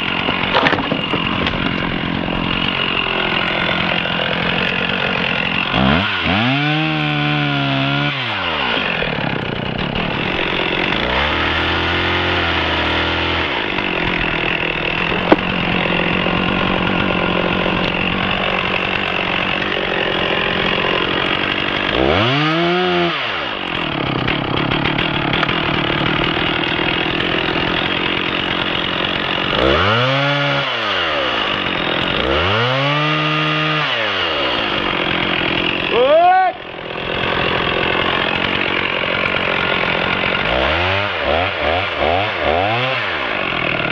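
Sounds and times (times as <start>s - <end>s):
chainsaw cutting tree trunk: 0.0s - 43.9s.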